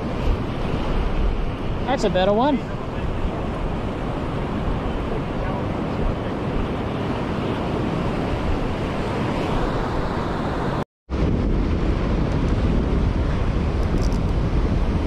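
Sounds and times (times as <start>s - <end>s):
surf washing up beach: 0.0s - 15.0s
wind buffeting microphone: 0.0s - 15.0s.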